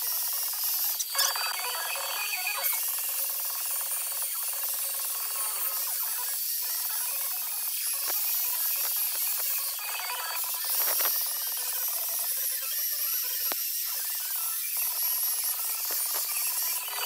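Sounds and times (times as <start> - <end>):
electric chainsaw cutting wood: 0.0 - 17.0.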